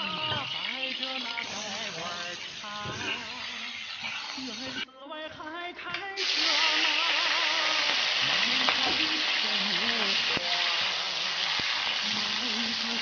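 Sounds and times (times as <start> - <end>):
food sizzling in hot oil: 0.0 - 4.8, 6.2 - 13.0
faint sung melody: 0.0 - 13.0.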